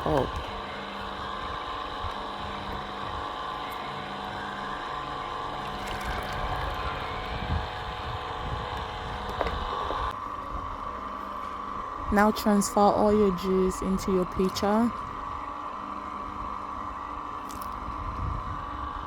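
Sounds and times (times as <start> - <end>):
electric juicer motor whirring: 0.0 - 19.0.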